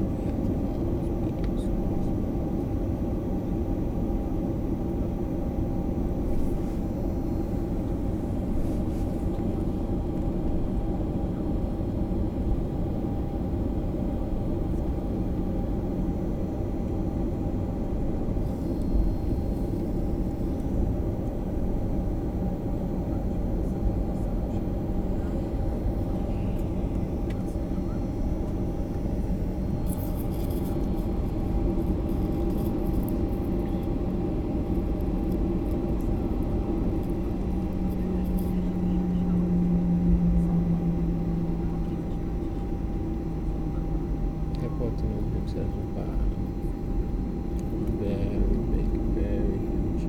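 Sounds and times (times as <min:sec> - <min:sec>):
jet cabin engine rumble: 0:00.0 - 0:50.0.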